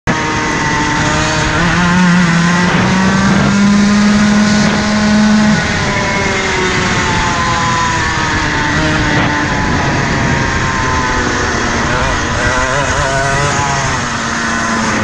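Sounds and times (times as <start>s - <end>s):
two-stroke kart engine revving: 0.1s - 15.0s.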